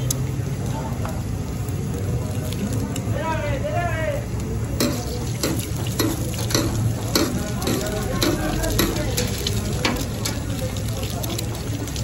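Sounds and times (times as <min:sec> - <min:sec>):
oil sizzling on griddle: 0:00.0 - 0:12.0.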